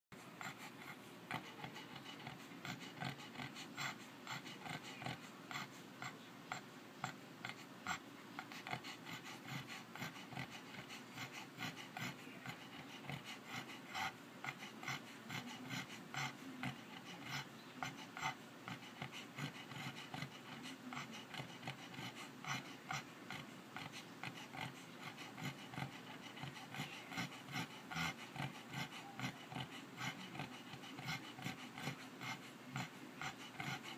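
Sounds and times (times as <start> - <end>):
pet snoring: 0.4 - 33.9.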